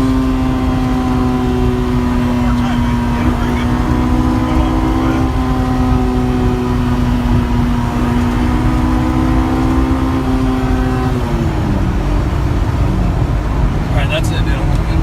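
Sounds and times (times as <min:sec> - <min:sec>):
car engine running under load: 0:00.0 - 0:15.0
low road rumble: 0:00.0 - 0:15.0.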